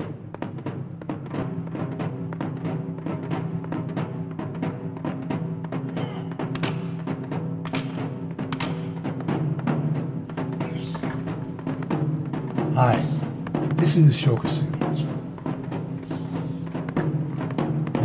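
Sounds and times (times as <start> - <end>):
film score with rapid drums: 0.0 - 18.0.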